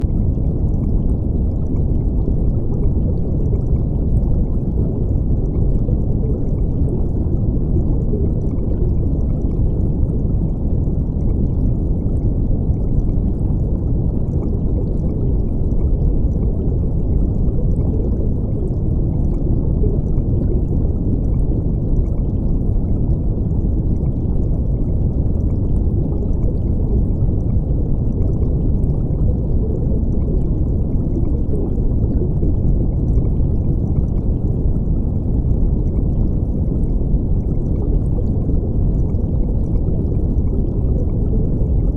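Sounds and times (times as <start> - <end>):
muffled water bubbling and rushing: 0.0 - 41.9.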